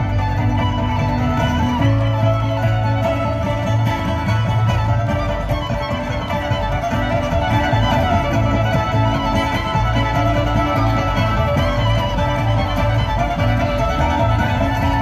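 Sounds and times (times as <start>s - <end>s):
bluegrass band playing: 0.0s - 15.0s
fiddle melody: 0.0s - 15.0s.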